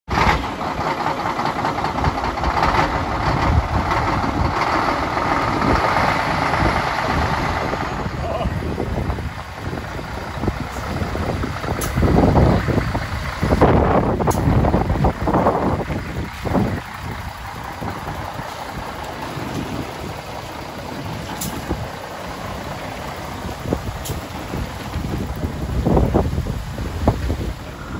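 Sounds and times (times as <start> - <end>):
diesel truck engine running: 0.1 - 27.9.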